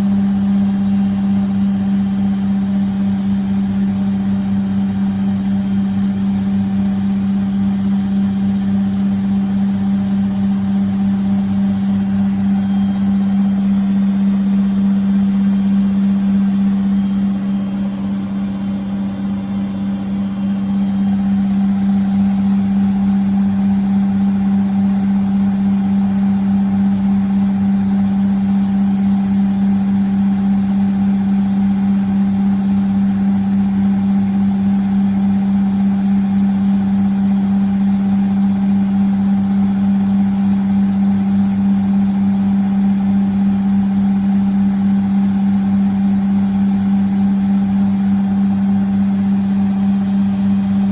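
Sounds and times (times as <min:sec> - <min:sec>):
washing machine spinning: 0:00.0 - 0:50.9.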